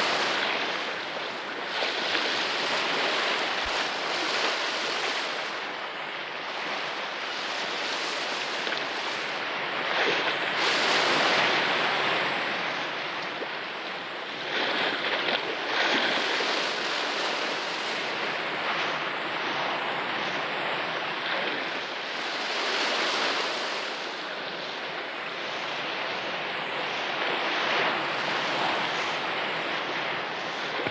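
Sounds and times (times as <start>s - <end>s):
sea waves washing on shore: 0.0s - 30.9s.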